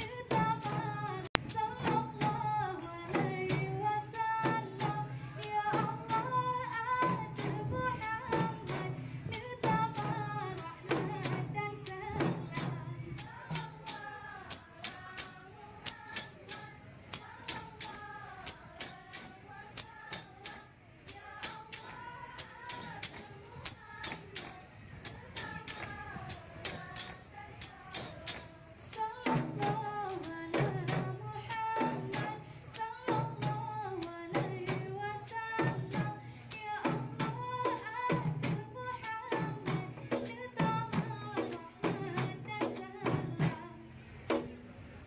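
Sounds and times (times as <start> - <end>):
percussion beat: 0.0 - 44.6.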